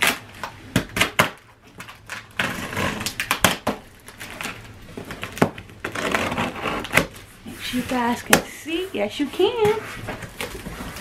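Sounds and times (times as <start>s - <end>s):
cardboard crackling and scraping: 0.0s - 11.0s.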